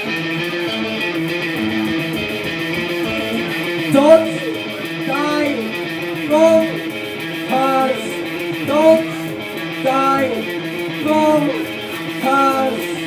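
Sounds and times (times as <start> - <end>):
electric guitar riff: 0.0 - 13.0.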